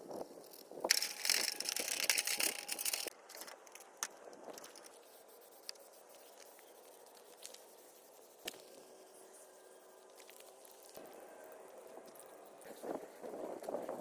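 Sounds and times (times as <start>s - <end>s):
sandpaper scrubbing plastic: 0.4s - 14.0s.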